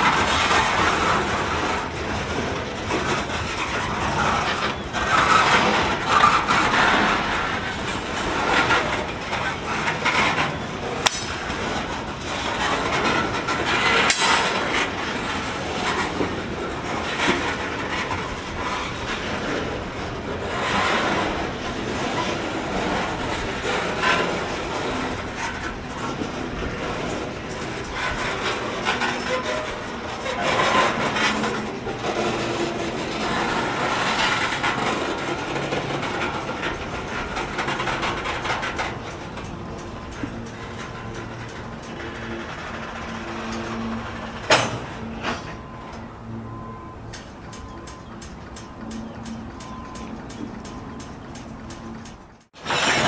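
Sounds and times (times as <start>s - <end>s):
freight train rolling past: 0.0s - 53.0s
steel wheels clattering on rails: 0.0s - 53.0s.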